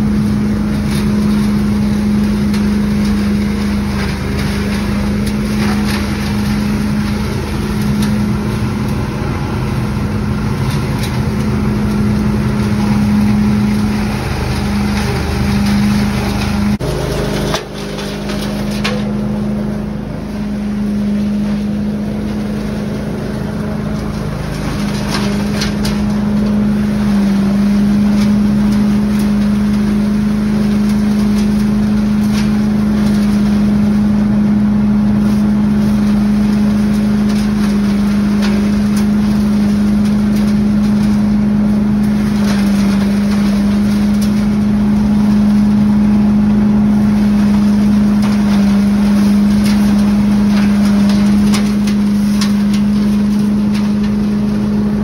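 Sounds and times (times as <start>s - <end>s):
leaf loader engine and fan hum: 0.0s - 55.0s
leaves rushing through hose: 0.0s - 55.0s.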